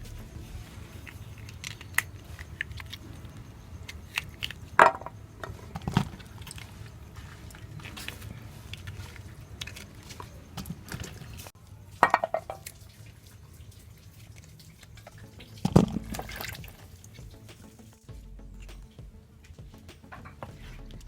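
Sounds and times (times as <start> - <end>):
water splashing and dripping: 0.0 - 20.8.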